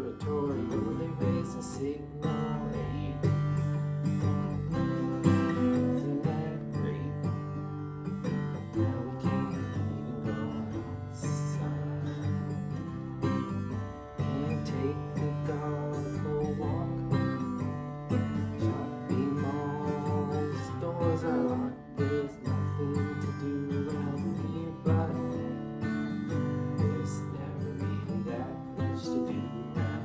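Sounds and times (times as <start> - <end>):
acoustic guitar strumming and picking: 0.0 - 30.0.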